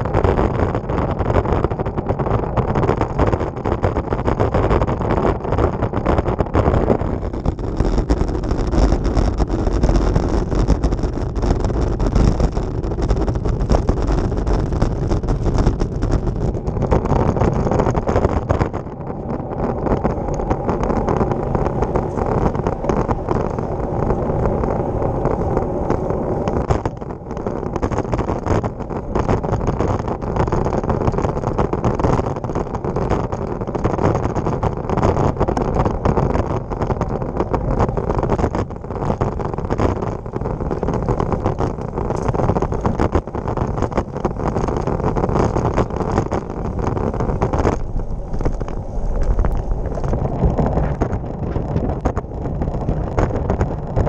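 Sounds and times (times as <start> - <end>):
bike tyres rumbling on tarmac: 0.0 - 54.0
wind rushing over microphone: 0.0 - 54.0.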